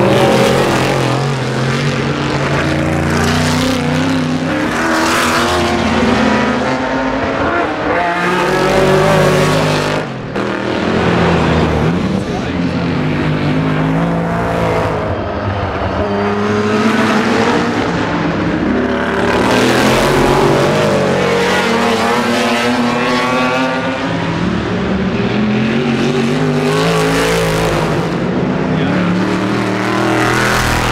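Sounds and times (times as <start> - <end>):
racing cars passing at full throttle: 0.0 - 30.9.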